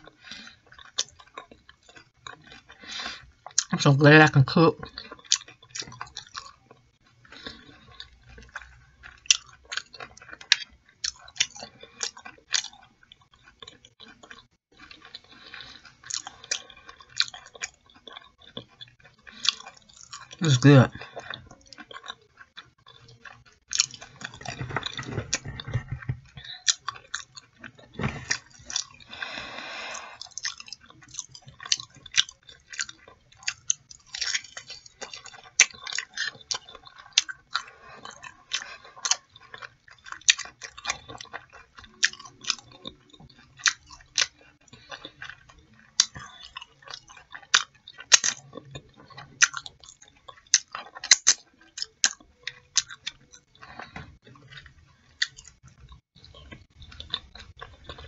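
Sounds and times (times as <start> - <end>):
chewing fried chicken: 0.0 - 58.0.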